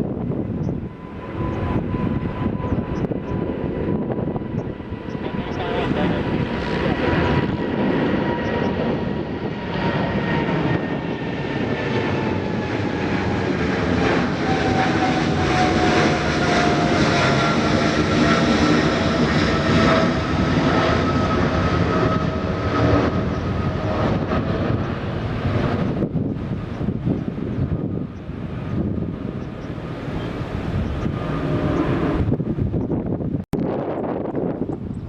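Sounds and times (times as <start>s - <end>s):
jet engines roaring past: 0.0s - 35.0s.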